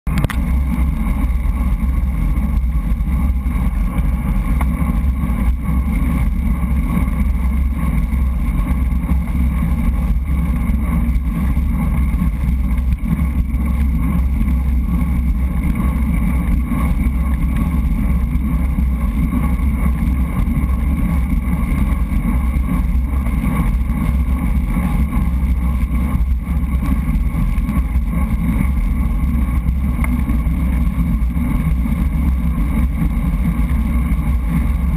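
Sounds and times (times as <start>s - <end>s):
road and tyre noise: 0.1s - 34.9s
wind rumble: 0.1s - 34.9s.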